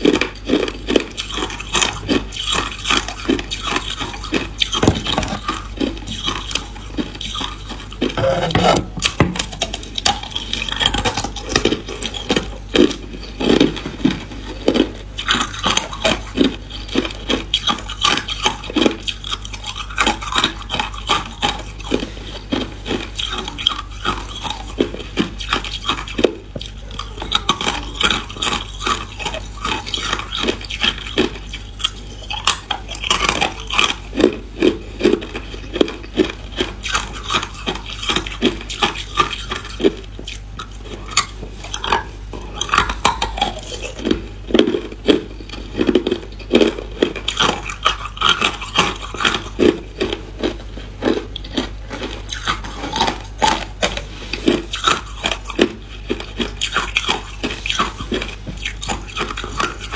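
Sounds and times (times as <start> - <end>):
ice cubes crunching in chewing: 0.0 - 59.9.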